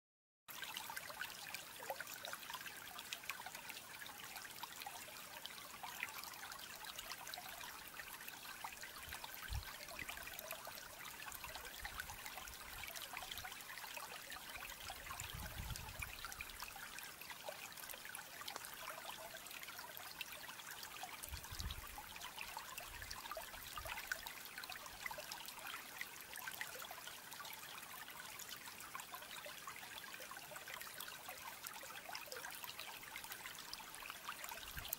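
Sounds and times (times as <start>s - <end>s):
faint water trickling: 0.5s - 34.9s.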